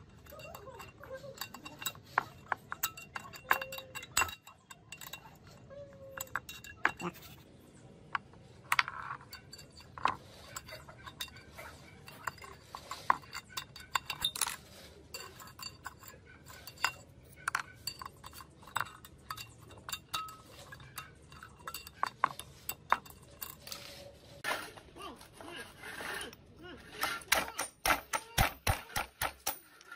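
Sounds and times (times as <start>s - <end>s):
metal pushrods clinking: 0.0s - 7.4s, 8.0s - 29.9s.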